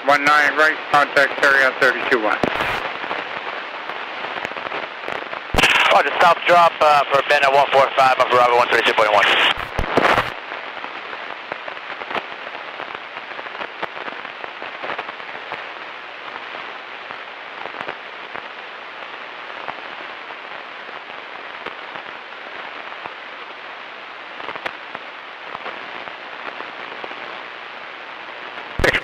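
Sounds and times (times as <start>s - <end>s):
crackles and clicks: 0.0s - 29.0s
radio static hiss: 0.0s - 29.0s.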